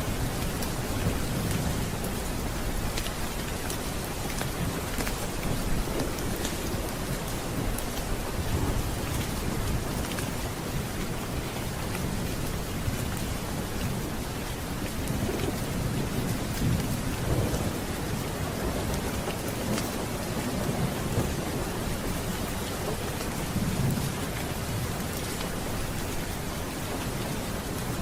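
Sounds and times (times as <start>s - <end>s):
low rolling thunder: 0.0s - 26.2s
steady rain: 0.0s - 28.0s.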